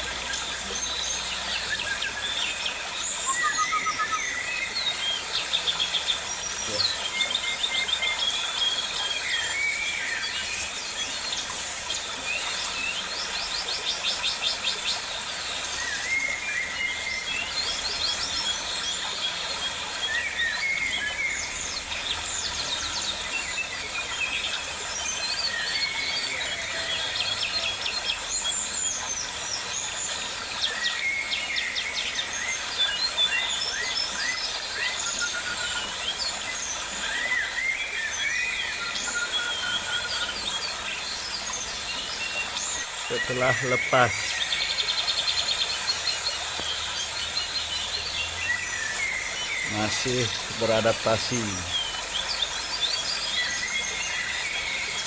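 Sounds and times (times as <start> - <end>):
birds chirping and whistling: 0.0 - 55.0.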